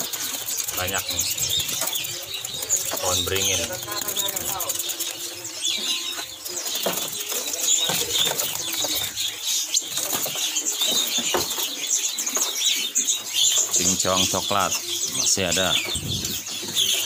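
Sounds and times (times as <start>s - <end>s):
birds chirping and twittering: 0.0s - 17.0s
wings fluttering: 0.0s - 17.0s.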